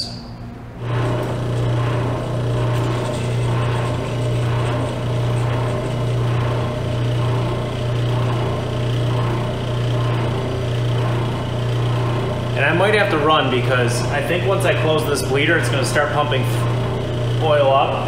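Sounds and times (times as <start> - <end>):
oil pump motor humming: 0.7 - 18.0.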